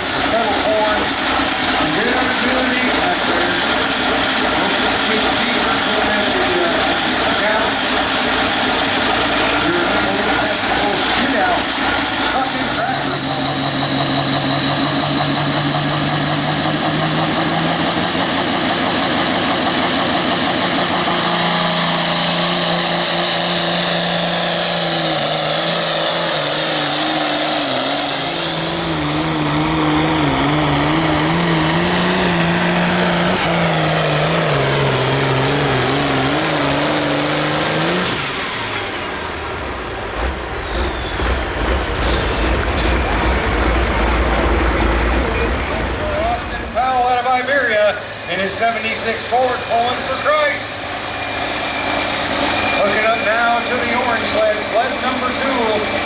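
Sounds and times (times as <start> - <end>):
high-pitched turbo whine: 0.0 - 56.0
low rumbling: 0.0 - 56.0
tractor diesel engine under load: 0.0 - 56.0.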